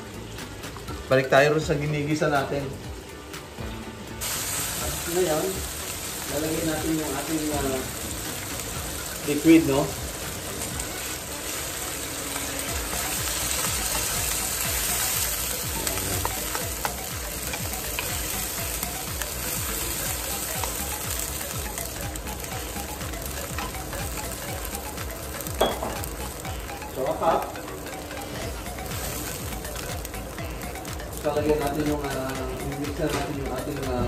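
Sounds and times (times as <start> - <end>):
food sizzling in a wok: 0.2 - 34.0.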